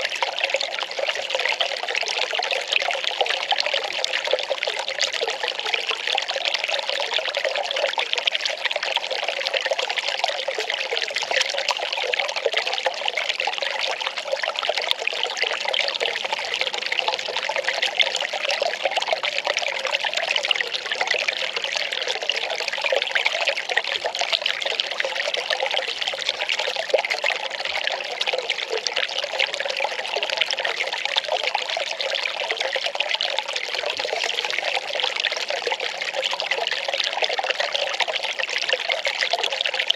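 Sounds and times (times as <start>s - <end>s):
water pouring: 0.0s - 39.9s.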